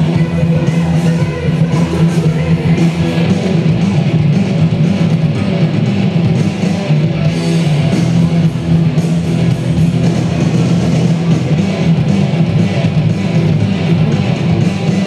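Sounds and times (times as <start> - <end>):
rock music with strummed guitars: 0.0 - 15.0.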